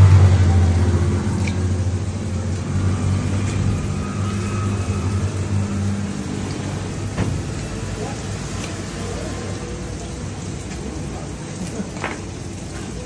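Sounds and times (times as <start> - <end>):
low engine hum: 0.0 - 10.5.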